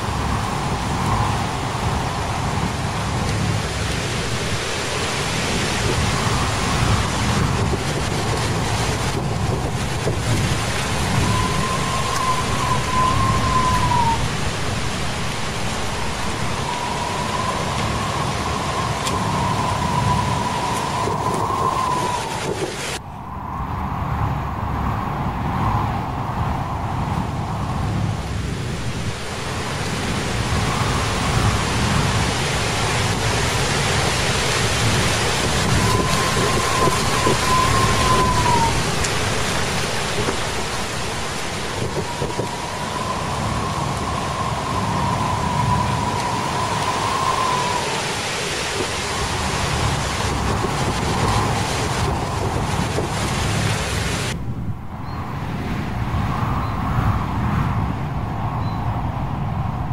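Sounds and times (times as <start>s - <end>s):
wavering wind whistle: 0.0s - 28.2s, 30.0s - 55.4s, 56.1s - 59.9s
rushing wind and rain: 0.0s - 59.9s.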